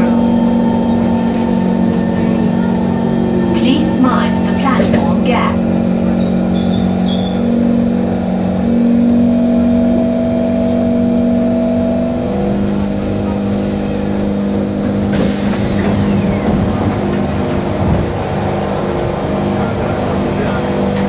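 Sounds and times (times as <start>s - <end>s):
high falling whine: 0.0s - 20.6s
train traction motors humming: 0.0s - 21.0s.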